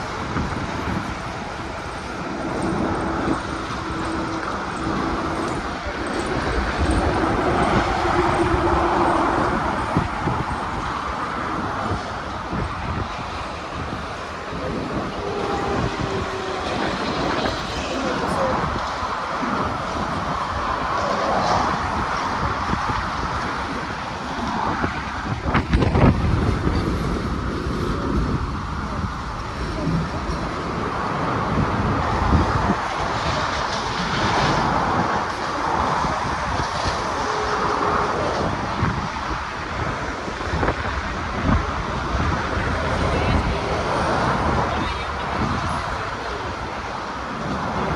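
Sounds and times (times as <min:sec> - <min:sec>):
passing vehicles rumbling: 0:00.0 - 0:47.9
wind on microphone: 0:00.0 - 0:47.9.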